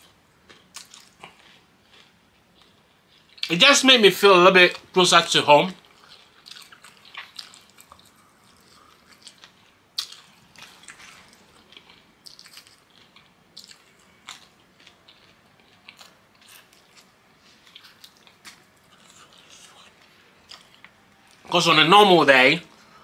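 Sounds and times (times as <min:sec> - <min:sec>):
person chewing: 0:00.0 - 0:03.5, 0:05.8 - 0:21.5.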